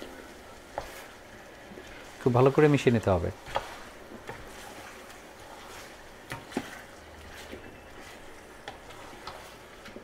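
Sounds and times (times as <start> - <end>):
faint sizzle: 0.0 - 10.0
spatula stirring in pot: 0.0 - 10.0.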